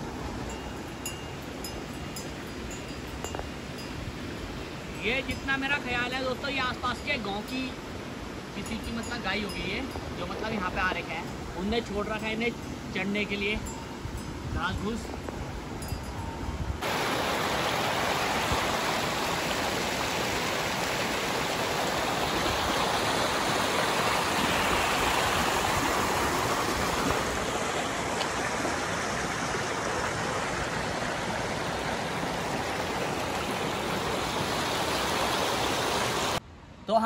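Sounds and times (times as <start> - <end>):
waterfall and stream rushing: 0.0 - 37.0.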